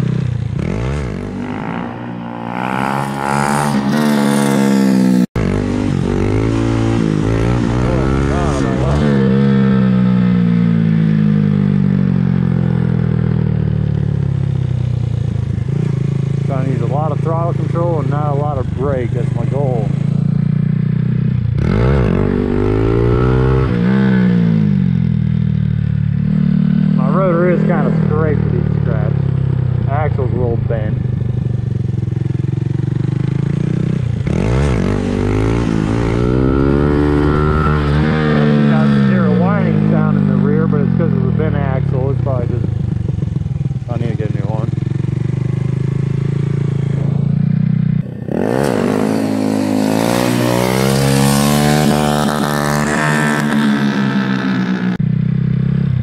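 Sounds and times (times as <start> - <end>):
motorcycle engine revs falling: 0.0 - 56.0.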